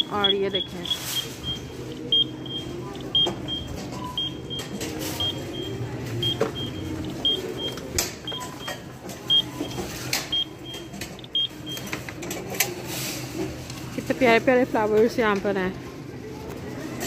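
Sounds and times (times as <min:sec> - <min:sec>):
shopping cart rolling: 0:00.0 - 0:02.7, 0:03.4 - 0:15.7.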